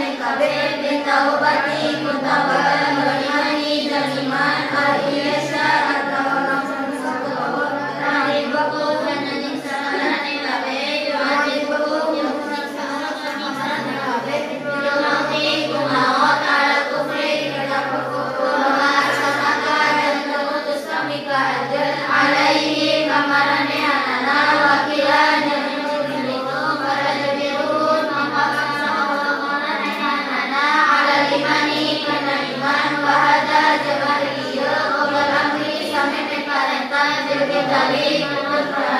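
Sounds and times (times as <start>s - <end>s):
girls chanting in unison: 0.0s - 38.9s.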